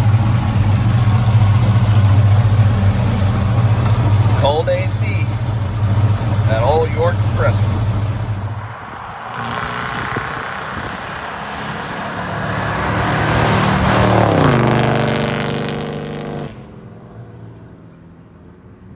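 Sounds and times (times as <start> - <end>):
road and wind noise: 0.0 - 18.9
truck engine with throaty exhaust: 0.0 - 18.9.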